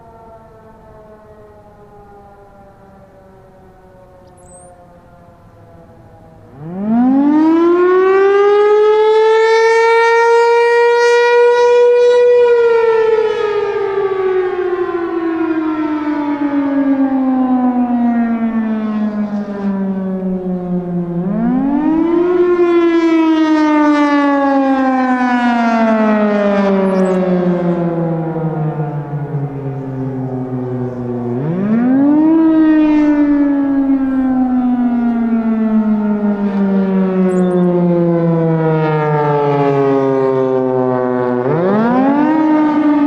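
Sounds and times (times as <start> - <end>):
rotating warning siren wailing: 0.0 - 43.0.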